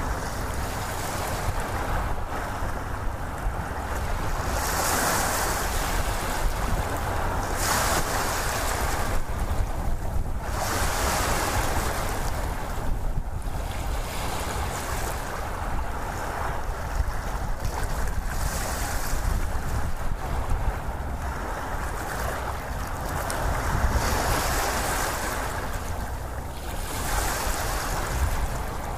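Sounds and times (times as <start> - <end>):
waves washing onto shore: 0.0 - 28.9.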